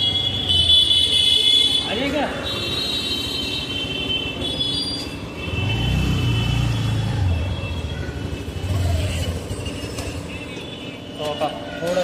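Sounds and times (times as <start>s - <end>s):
low rumbling road traffic: 0.0s - 12.0s.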